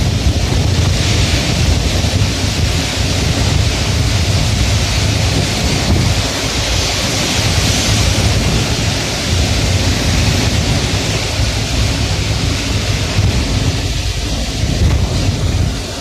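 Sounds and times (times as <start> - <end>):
deep rumble: 0.0 - 16.0
heavy rain falling: 0.0 - 16.0.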